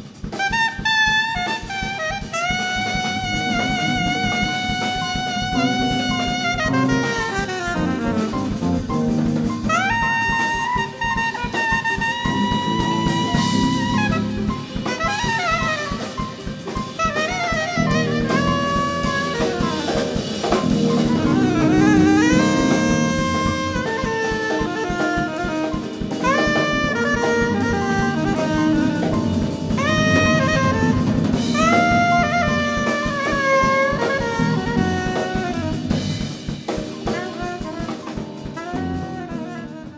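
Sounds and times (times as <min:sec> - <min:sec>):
bass: 0:00.0 - 0:39.9
drum kit with cymbals: 0:00.0 - 0:39.9
soprano saxophone lead: 0:00.0 - 0:39.9.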